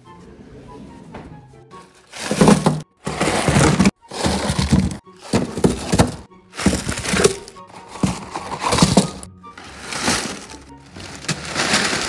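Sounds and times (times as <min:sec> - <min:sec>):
plastic wrappers crinkling and clattering: 0:02.1 - 0:12.0.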